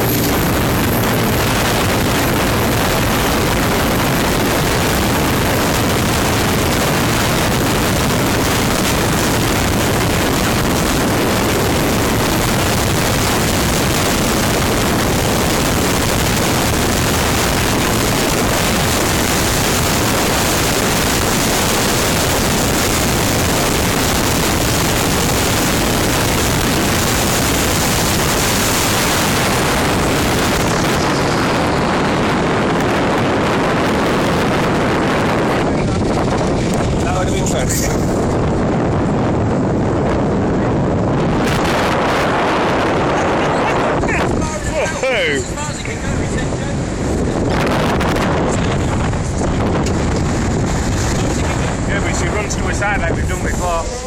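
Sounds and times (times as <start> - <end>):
boat engines: 0.0 - 54.0
water rushing along hull: 0.0 - 54.0
wind on microphone: 0.0 - 54.0.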